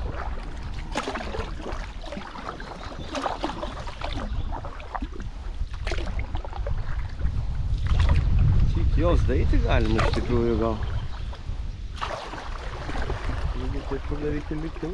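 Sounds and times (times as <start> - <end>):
paddle splashing in water: 0.0 - 8.5, 9.8 - 14.9.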